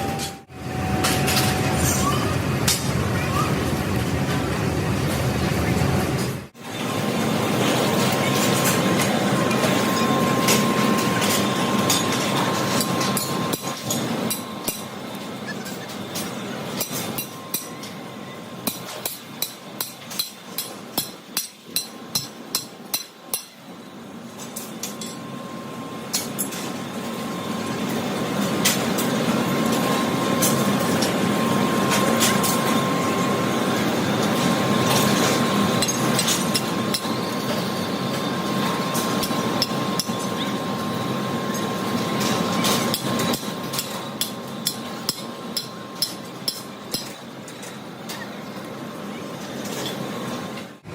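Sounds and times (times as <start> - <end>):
machine noise with whine: 0.0 - 50.9.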